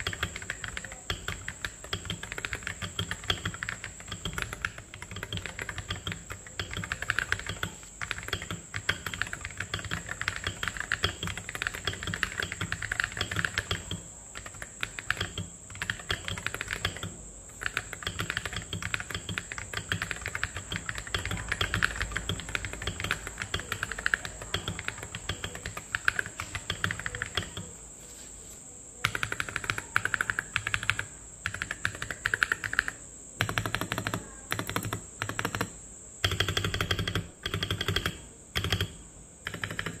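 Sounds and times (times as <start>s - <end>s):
mechanical keyboard typing: 0.0s - 27.8s, 29.0s - 40.0s.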